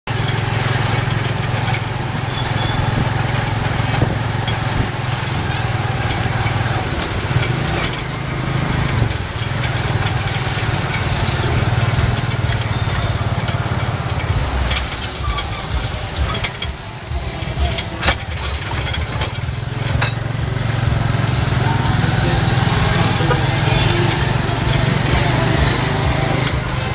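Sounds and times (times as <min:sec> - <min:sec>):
motorcycle engine running: 0:00.0 - 0:26.9
road and traffic noise: 0:00.0 - 0:26.9.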